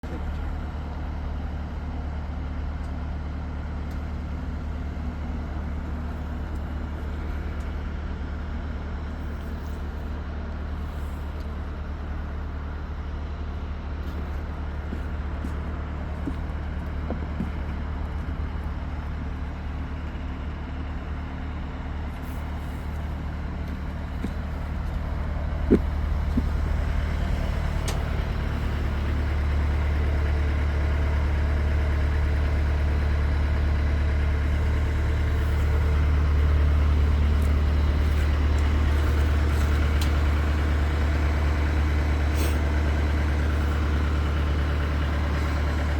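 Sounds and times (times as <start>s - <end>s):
low mechanical drone: 0.0s - 45.9s.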